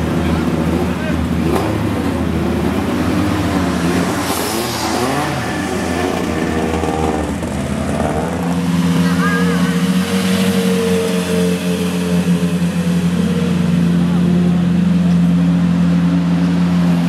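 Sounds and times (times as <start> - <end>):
car engine running at low revs: 0.0 - 17.0
sports car engines driving off: 0.0 - 17.0.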